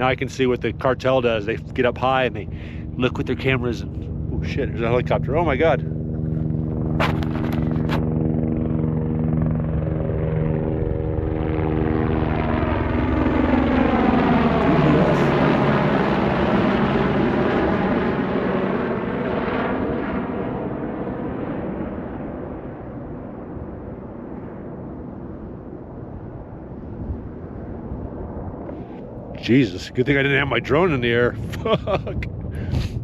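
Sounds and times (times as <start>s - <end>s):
helicopter flying past: 0.0s - 33.0s.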